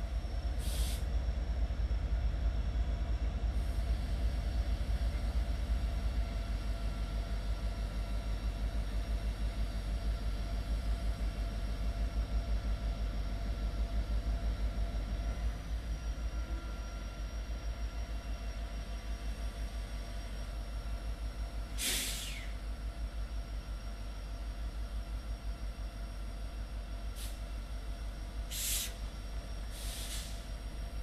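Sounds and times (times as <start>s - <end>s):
diesel locomotive engines rumbling: 0.0s - 31.0s.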